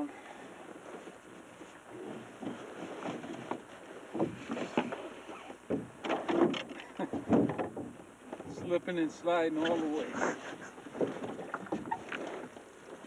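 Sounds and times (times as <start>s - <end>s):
fish thumping and sliding in boat: 0.8s - 8.8s, 9.6s - 13.0s.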